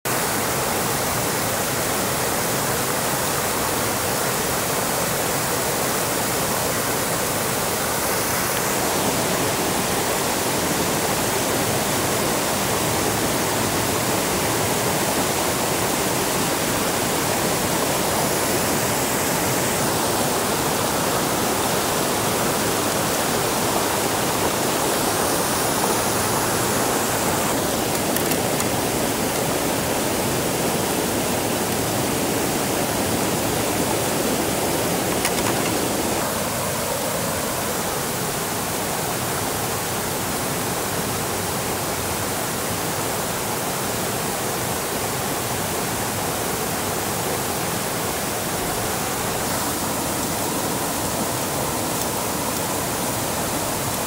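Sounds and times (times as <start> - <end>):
water rushing: 0.1 - 54.0.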